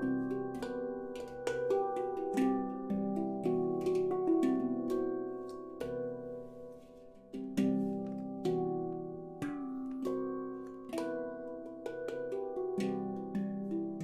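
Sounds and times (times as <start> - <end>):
handpan notes ringing: 0.0 - 14.0.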